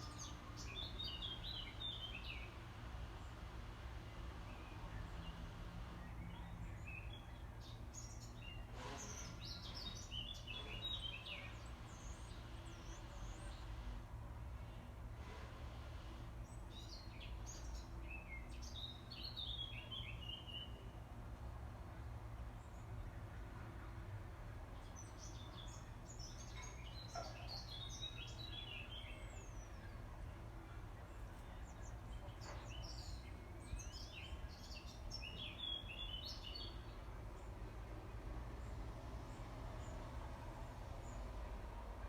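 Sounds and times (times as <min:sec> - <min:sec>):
low background noise: 0:00.0 - 0:42.0.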